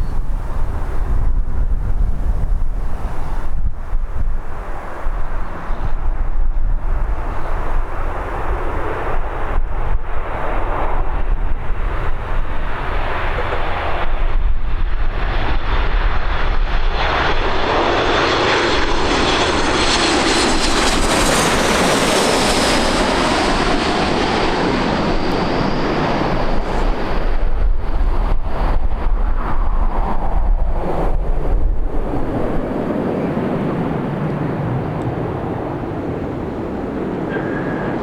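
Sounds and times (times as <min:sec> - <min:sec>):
jet engine whine and roar: 0:00.0 - 0:38.0
wind rumbling on microphone: 0:00.0 - 0:38.0.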